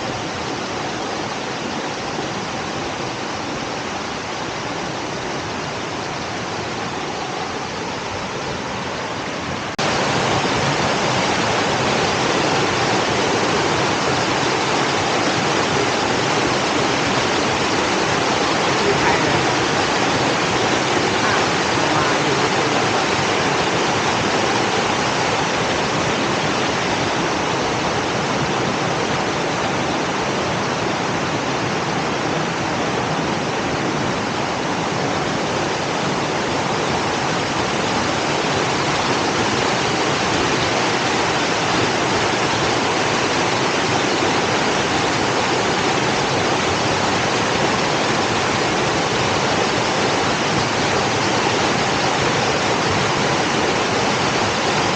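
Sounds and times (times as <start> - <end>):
waterfall rushing and splashing: 0.0 - 54.9.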